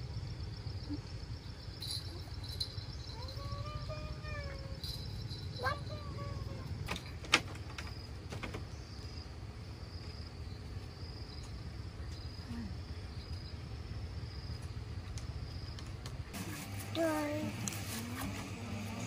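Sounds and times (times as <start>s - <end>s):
insects chirping: 0.0s - 16.4s.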